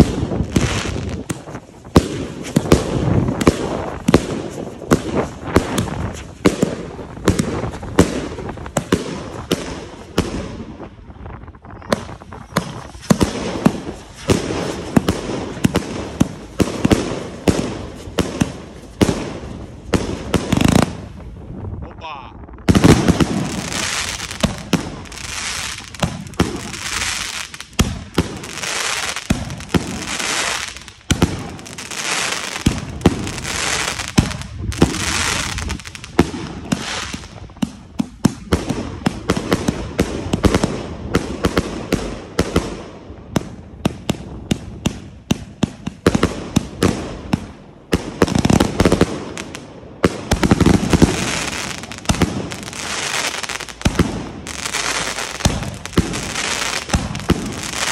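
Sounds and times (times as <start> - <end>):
firework bangs: 0.0 - 57.9
firework crackling: 0.0 - 57.9.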